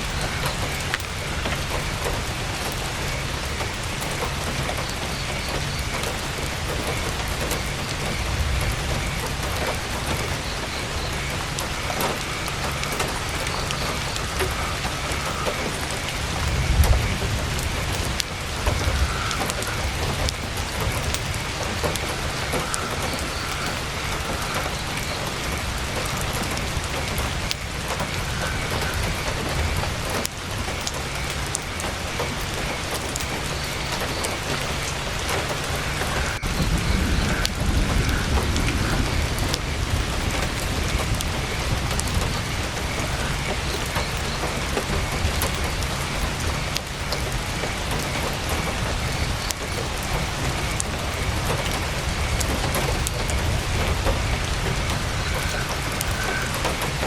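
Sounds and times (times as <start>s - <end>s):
heavy rain on tent fabric: 0.0s - 57.0s.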